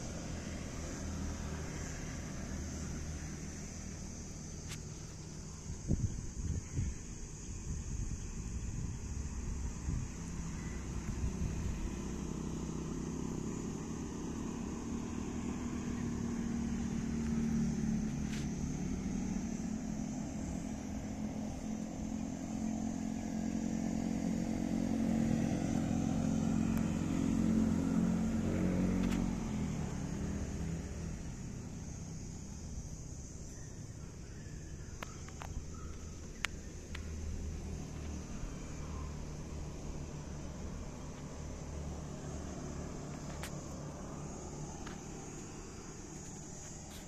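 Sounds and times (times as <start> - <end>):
engine running: 0.0 - 47.0.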